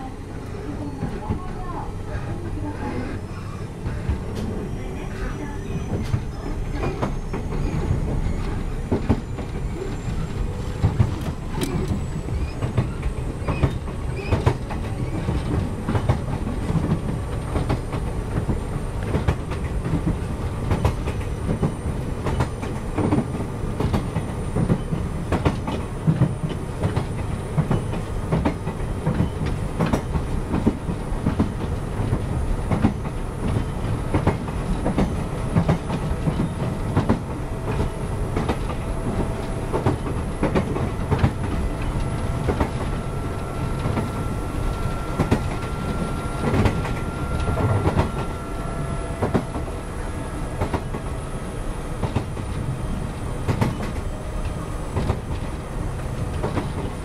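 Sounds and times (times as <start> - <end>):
train rumble: 0.0 - 57.0
train wheels clattering over joints: 0.5 - 49.8, 52.0 - 57.0.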